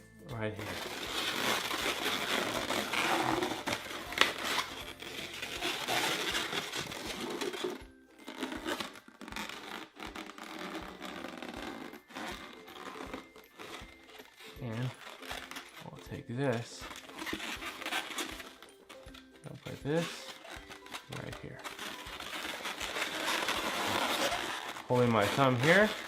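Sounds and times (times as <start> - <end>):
balloons rubbing and scratching: 0.6 - 26.0
small balloon clicks: 1.0 - 15.8, 16.8 - 26.0.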